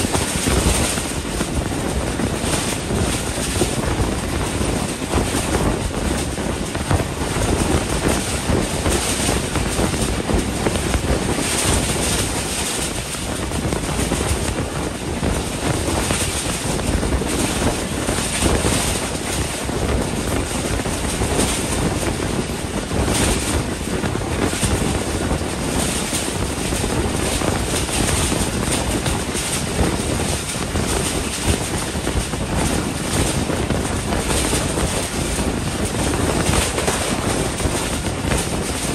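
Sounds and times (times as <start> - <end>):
train wheels rumbling on rails: 0.0 - 38.9
wind rushing over microphone: 0.0 - 38.9.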